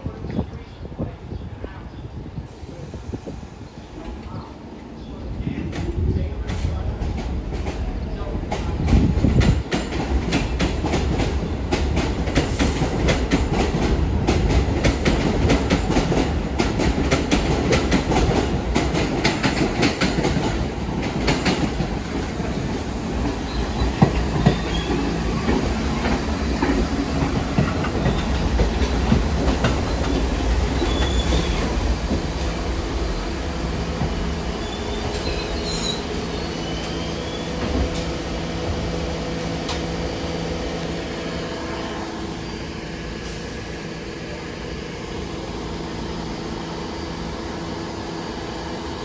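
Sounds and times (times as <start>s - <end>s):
train low rumble: 0.0s - 49.0s
subway train wheels clacking: 0.1s - 49.0s.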